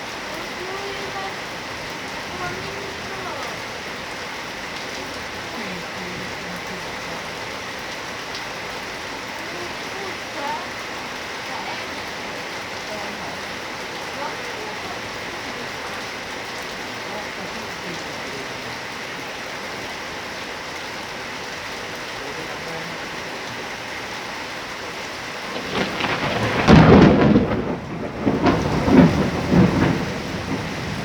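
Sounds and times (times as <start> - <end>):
thunder rumbling: 0.0 - 19.8, 25.2 - 31.0
heavy rain: 0.0 - 31.0.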